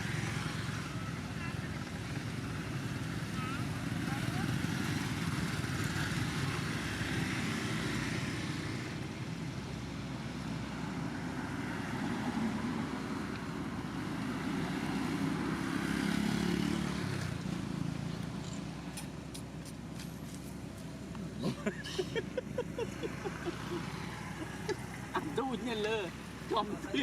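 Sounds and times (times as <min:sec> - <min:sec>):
passing road traffic: 0:00.0 - 0:27.0.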